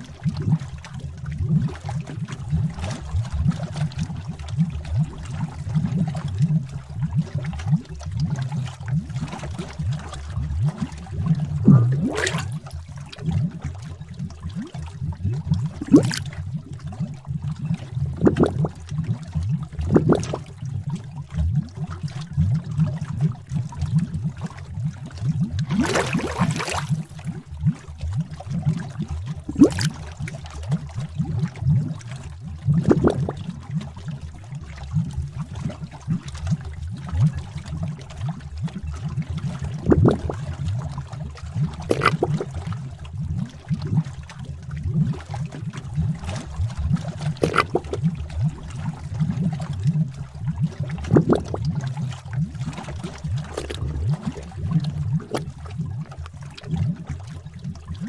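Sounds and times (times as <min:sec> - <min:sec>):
thick liquid bubbling: 0:00.0 - 0:58.0.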